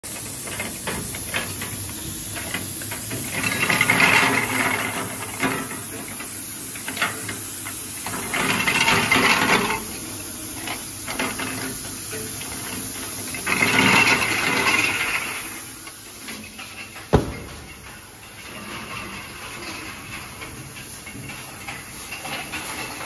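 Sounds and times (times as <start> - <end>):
machine running with hiss: 0.0 - 23.0.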